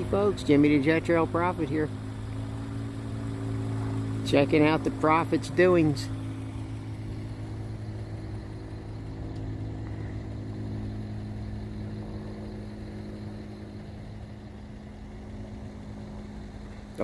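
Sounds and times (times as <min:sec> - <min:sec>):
small plane engine drone: 0:00.0 - 0:17.0.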